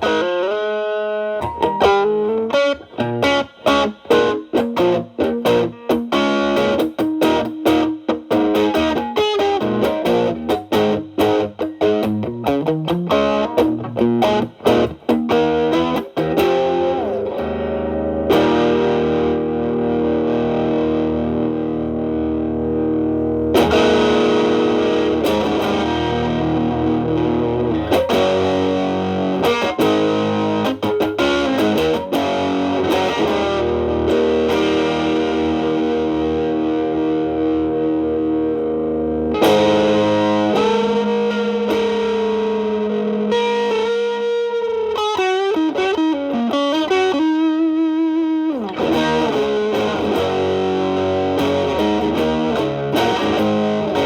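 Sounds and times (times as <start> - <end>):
distorted electric guitar: 0.0 - 54.0.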